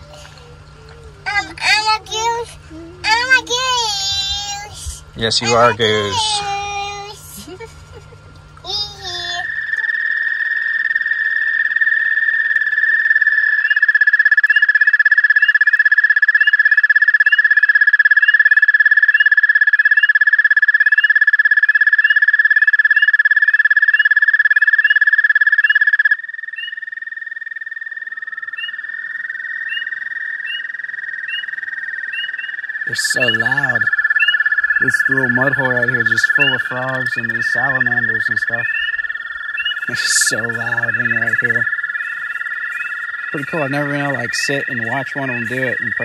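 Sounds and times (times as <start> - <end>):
frogs peeping: 0.0 - 46.0
frogs trilling: 0.0 - 46.0.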